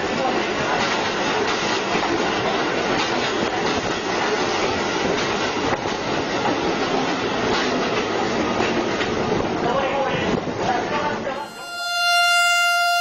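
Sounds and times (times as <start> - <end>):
train wheels on rail: 0.0 - 11.3.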